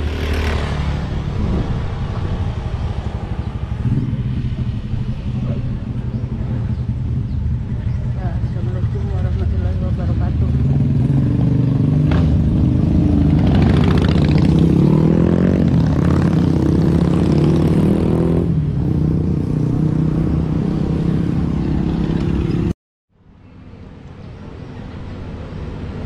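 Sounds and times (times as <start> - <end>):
motorcycle engine revving: 0.0 - 22.7.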